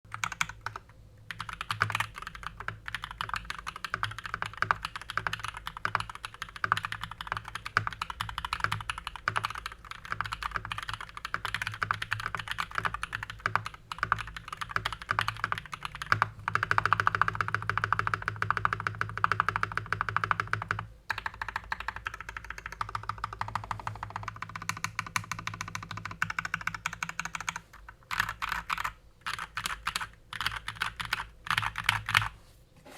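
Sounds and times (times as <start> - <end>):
typing on mechanical keyboard: 0.1 - 32.4.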